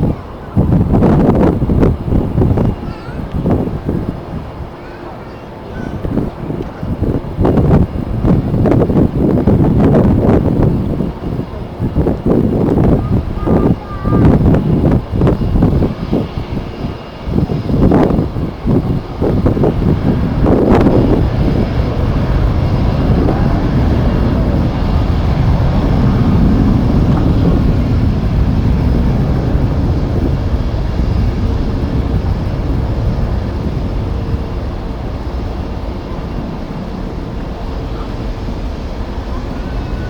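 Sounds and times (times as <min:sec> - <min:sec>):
jet engines rumbling: 0:00.0 - 0:40.0
wind buffeting microphone: 0:00.0 - 0:40.0.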